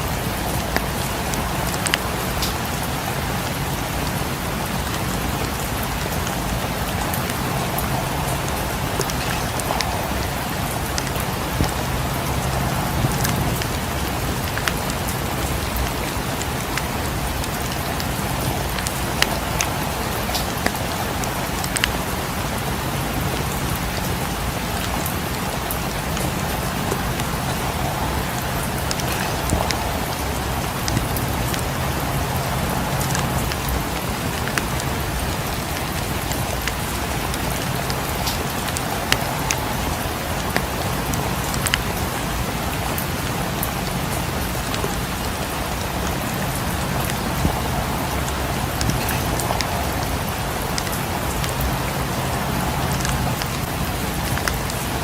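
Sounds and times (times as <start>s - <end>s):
fireplace crackling: 0.0s - 43.0s, 43.6s - 54.6s
rain falling: 0.0s - 55.0s.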